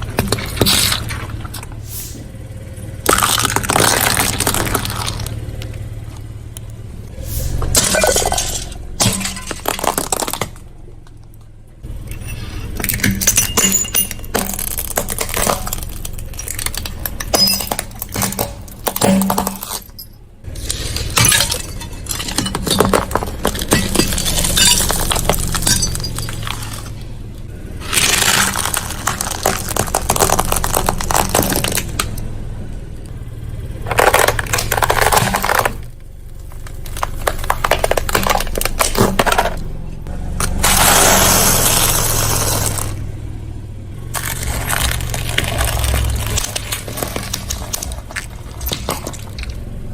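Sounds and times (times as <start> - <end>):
tyre crushing brittle objects: 0.0 - 1.7, 3.0 - 6.2, 7.7 - 10.8, 12.0 - 27.1, 27.8 - 32.2, 33.8 - 43.0, 44.0 - 49.9
car engine running low: 0.0 - 49.9.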